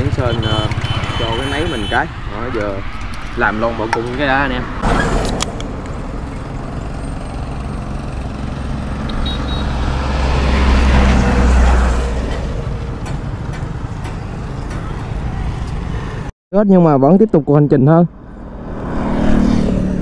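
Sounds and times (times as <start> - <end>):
heavy vehicle passing: 0.0 - 16.3, 18.1 - 20.0.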